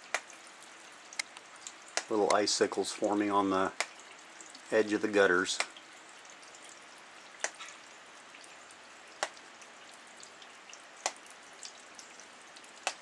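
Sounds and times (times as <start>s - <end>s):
rain hiss and patter: 0.0s - 13.0s.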